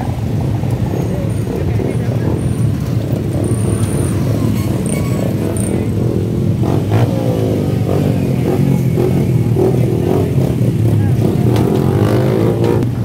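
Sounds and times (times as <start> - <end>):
motorcycle engines idling: 0.0 - 13.0
motorcycle engine revving: 0.1 - 13.0.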